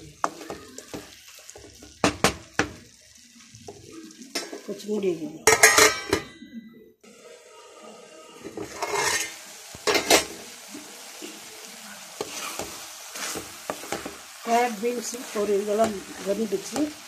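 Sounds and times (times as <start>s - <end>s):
vegetables sizzling in a pan: 0.0s - 6.0s, 7.1s - 17.0s.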